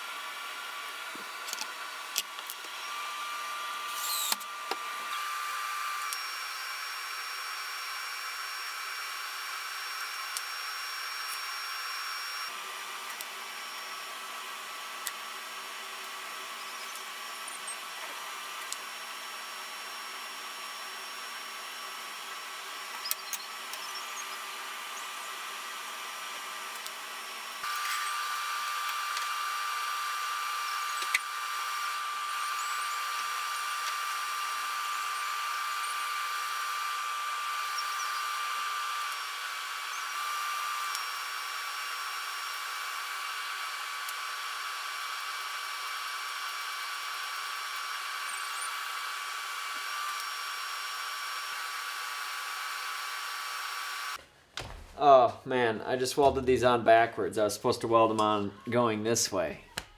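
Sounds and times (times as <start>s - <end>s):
power tool motor whirring: 0.0s - 54.2s.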